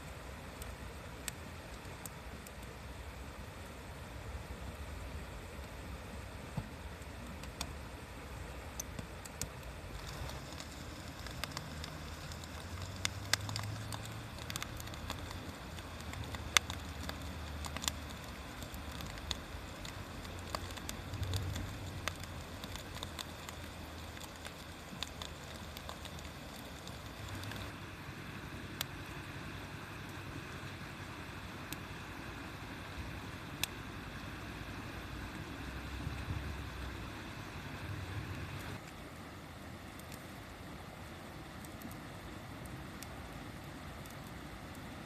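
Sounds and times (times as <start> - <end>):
wood fire crackling and popping: 0.0 - 4.0, 4.7 - 39.0, 39.8 - 45.0
low background rumble: 0.0 - 45.0.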